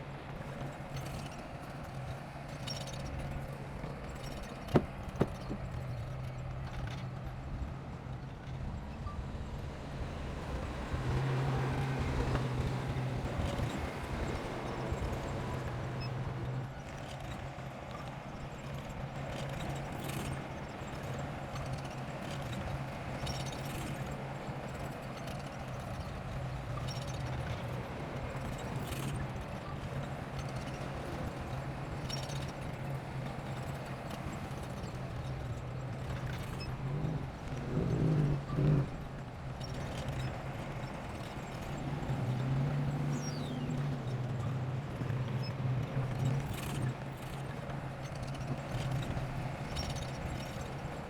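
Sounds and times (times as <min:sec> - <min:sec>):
bulldozer diesel engine running: 0:09.6 - 0:51.0.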